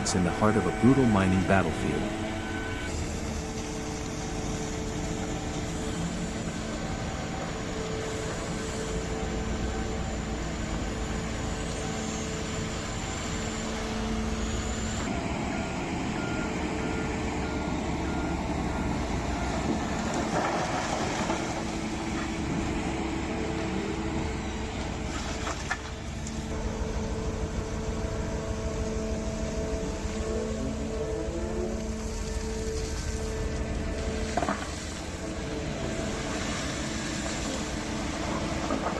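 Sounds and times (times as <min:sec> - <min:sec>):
diesel engines of heavy machines: 0:00.0 - 0:38.9
truck reversing alarm beeping: 0:00.0 - 0:38.9.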